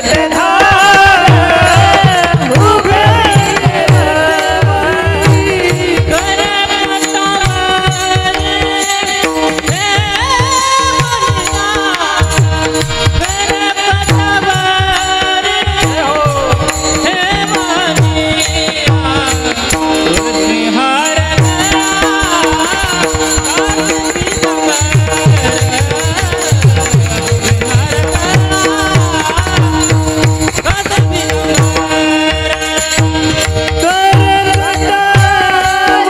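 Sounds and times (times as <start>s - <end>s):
man singing: 0.0s - 36.0s.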